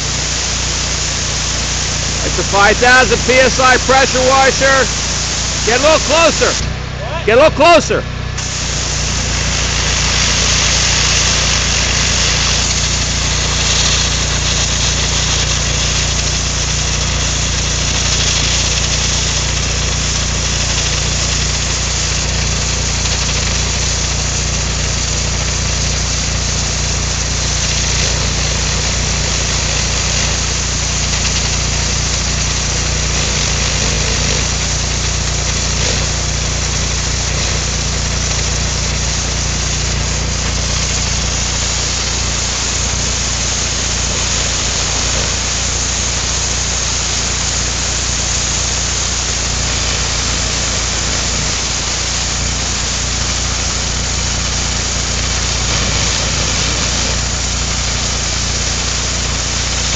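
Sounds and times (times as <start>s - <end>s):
pressure washer engine drone: 0.0s - 59.9s
water jet spraying on metal: 0.0s - 59.9s.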